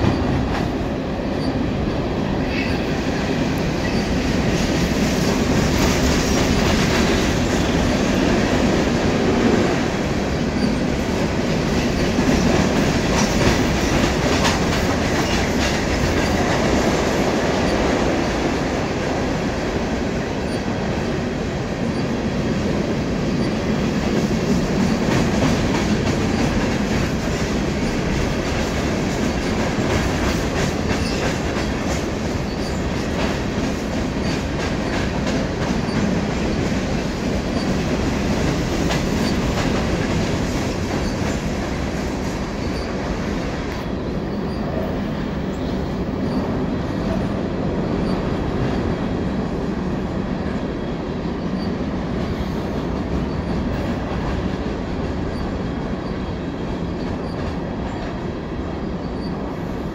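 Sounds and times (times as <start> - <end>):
freight train cars rumbling: 0.0 - 59.9.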